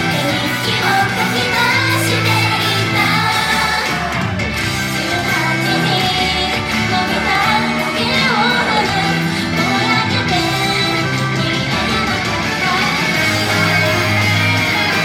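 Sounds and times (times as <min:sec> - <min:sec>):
group singing live: 0:00.0 - 0:15.0
loud pop music: 0:00.0 - 0:15.0.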